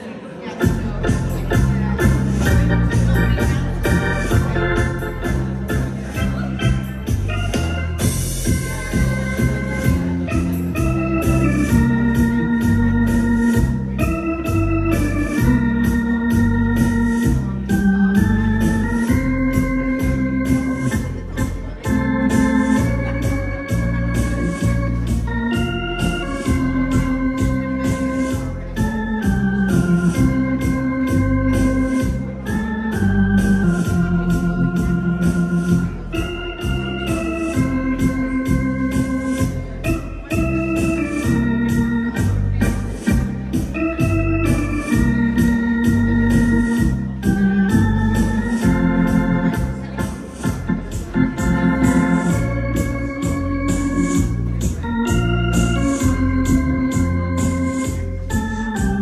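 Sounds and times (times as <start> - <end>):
organ keyboard tango music: 0.0 - 59.0.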